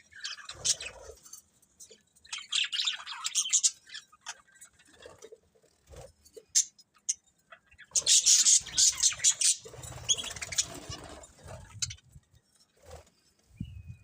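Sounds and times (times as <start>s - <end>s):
budgerigars chirping and chattering: 0.0s - 12.2s.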